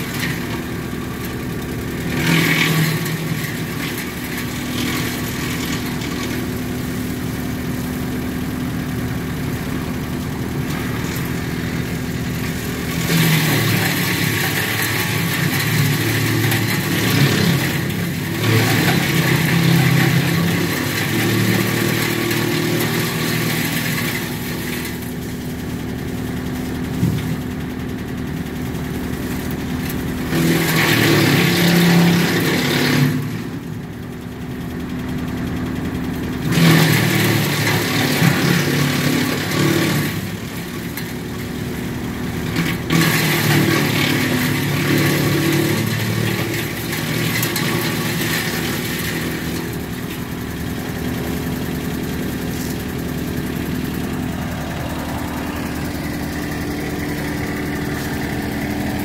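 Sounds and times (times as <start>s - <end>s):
tractor engine running: 0.0s - 59.0s
wood chipper chipping branches: 0.0s - 59.0s.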